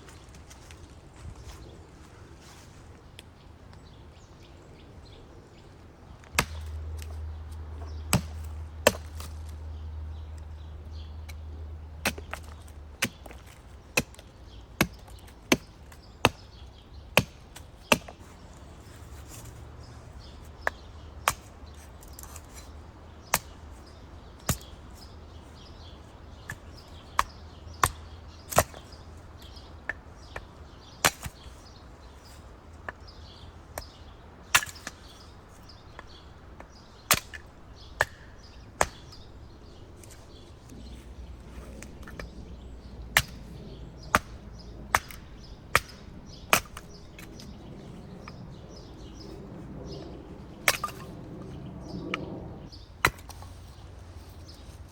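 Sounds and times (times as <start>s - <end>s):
wood being chopped: 6.2s - 10.4s, 11.2s - 19.6s, 20.2s - 50.0s, 50.6s - 52.3s, 53.0s - 53.8s.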